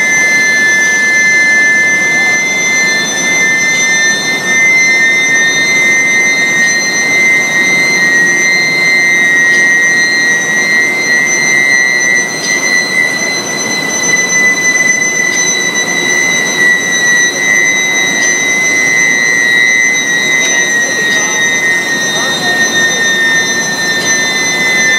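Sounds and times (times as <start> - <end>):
furnace high-pitched whine: 0.0 - 24.9.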